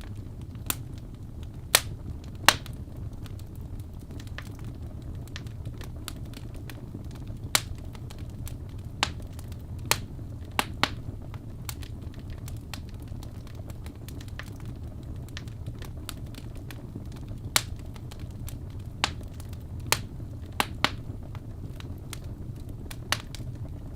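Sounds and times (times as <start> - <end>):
fire crackling: 0.0 - 23.9
loud fire pops: 0.0 - 23.9
low rumble of flames: 0.0 - 23.9.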